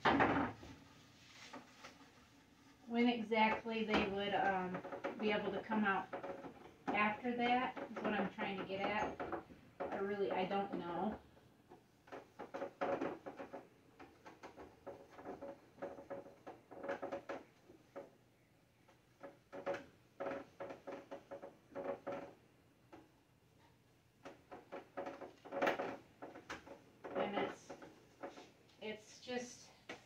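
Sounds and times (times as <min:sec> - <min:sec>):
plastic shelves knocking and clicking: 0:00.0 - 0:00.8, 0:03.4 - 0:18.2, 0:18.8 - 0:23.2, 0:24.2 - 0:28.6.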